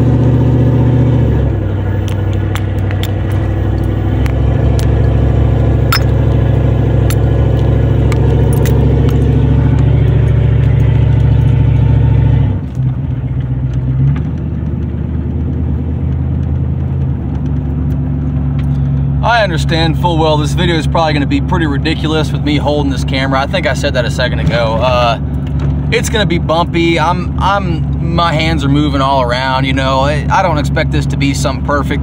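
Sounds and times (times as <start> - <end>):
loud truck engine driving: 0.0 - 32.0.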